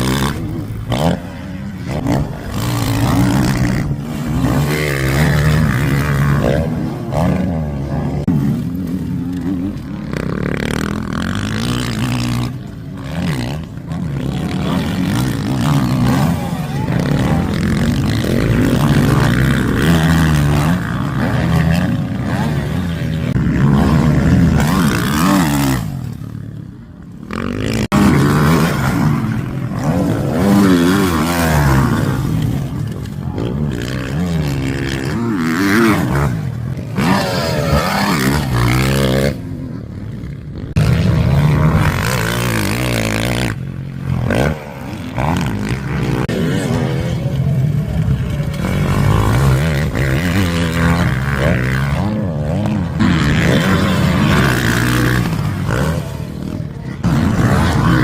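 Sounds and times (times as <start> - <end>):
motocross bikes revving: 0.0 - 58.0.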